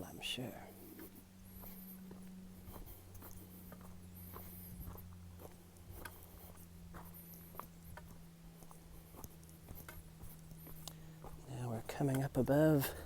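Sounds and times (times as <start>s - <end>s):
faint footsteps on road: 0.0s - 13.0s
steady low hum: 0.0s - 13.0s.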